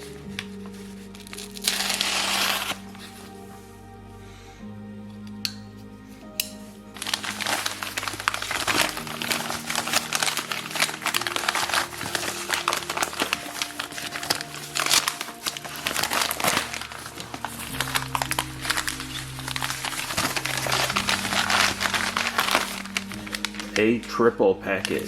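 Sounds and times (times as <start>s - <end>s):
packaging crinkling and rustling: 0.0s - 3.5s, 7.0s - 25.0s
soft background music: 0.0s - 25.0s.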